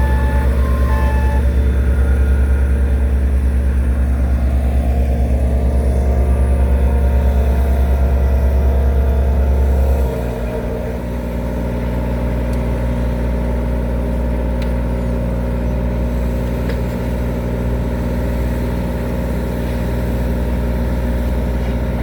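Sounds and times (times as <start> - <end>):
heavy machine engine humming: 0.0 - 22.0.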